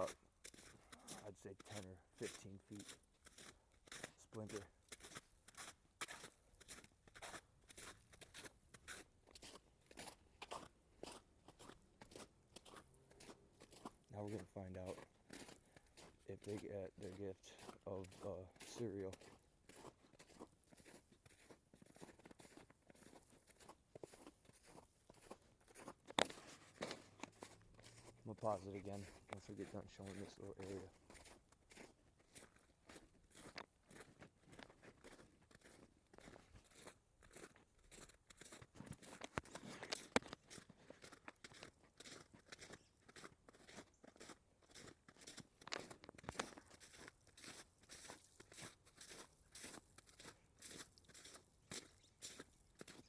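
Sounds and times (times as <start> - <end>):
footsteps crunching: 0.0 - 53.0.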